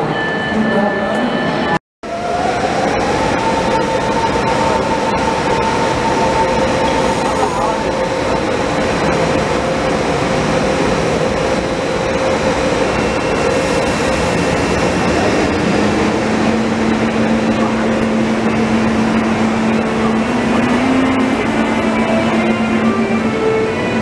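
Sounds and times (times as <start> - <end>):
electric locomotive traction whine: 2.1 - 24.0.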